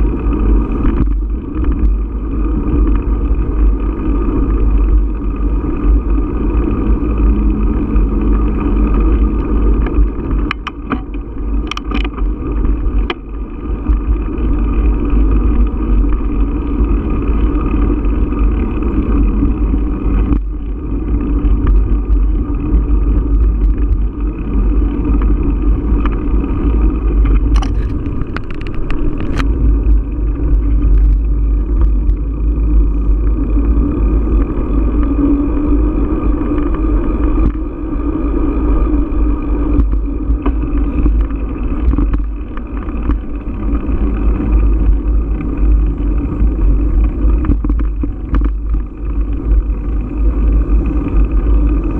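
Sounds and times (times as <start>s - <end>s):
sharp clicks and rattles: 0.0s - 37.7s, 38.9s - 51.9s
tyre noise on asphalt: 0.0s - 51.9s
wind buffeting microphone: 0.0s - 51.9s.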